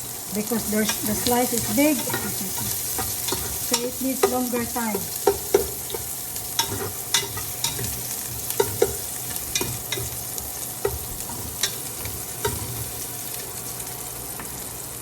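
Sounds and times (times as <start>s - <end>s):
onions sizzling in hot oil: 0.0s - 15.0s
utensil clicking against pan: 0.8s - 12.8s.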